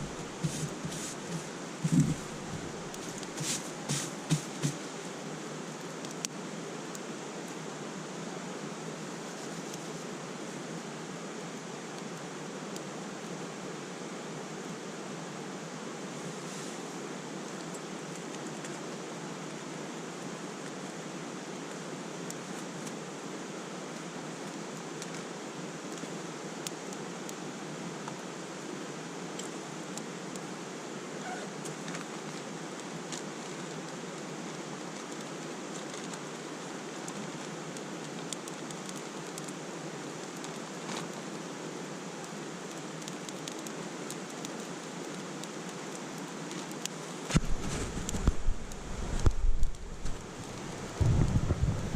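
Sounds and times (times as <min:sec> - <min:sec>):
faint ticks and crackles: 0:00.0 - 0:14.9, 0:16.1 - 0:51.9.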